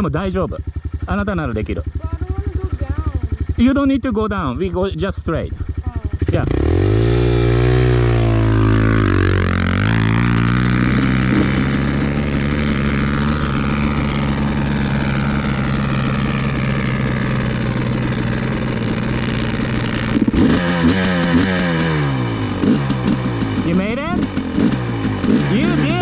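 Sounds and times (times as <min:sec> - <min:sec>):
dirt bike engine revving: 0:00.8 - 0:26.0.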